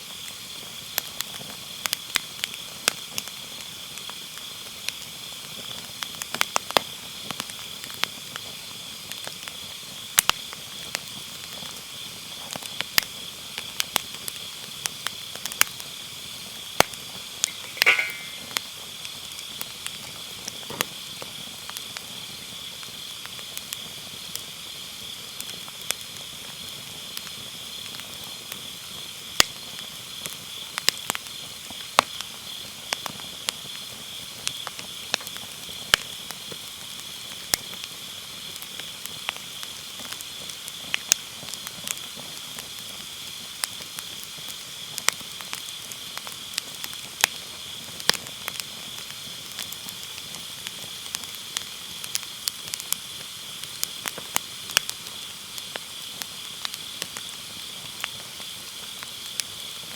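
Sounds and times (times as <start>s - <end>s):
firewood crackling and popping: 0.0s - 59.9s
night insects chirring: 0.1s - 59.9s.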